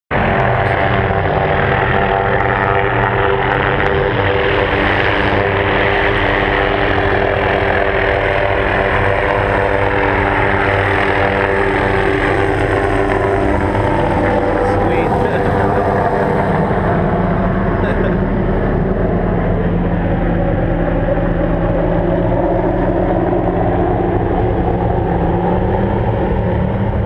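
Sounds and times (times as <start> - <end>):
helicopter flying overhead: 0.1 - 27.0.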